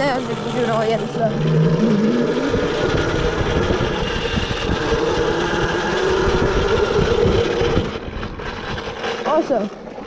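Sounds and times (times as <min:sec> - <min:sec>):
electric motor whining: 0:00.0 - 0:10.0
wind rumble on microphone: 0:00.0 - 0:10.0.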